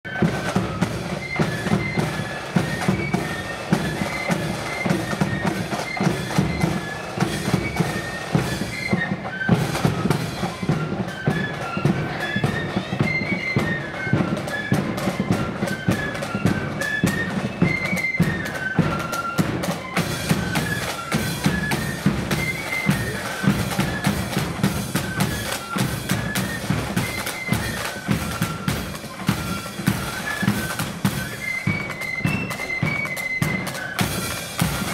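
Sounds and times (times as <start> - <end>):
flutes playing in unison: 0.0 - 34.9
snare drum strokes: 0.1 - 34.9.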